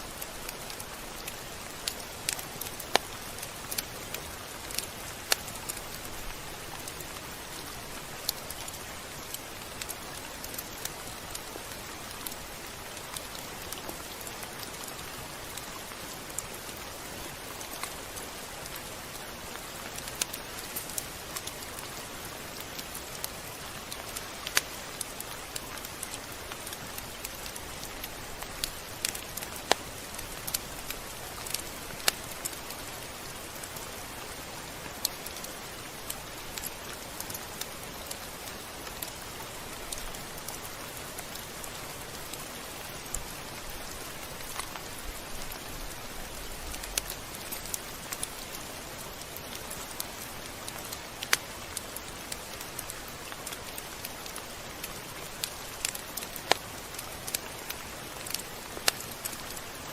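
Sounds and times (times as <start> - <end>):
rain hissing: 0.0 - 59.9
raindrop ticks: 0.0 - 59.9.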